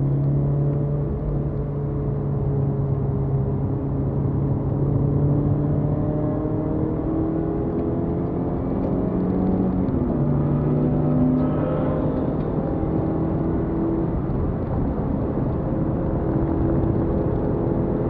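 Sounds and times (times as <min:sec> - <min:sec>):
car engine accelerating: 0:00.0 - 0:18.0
tyre and road noise: 0:00.0 - 0:18.0.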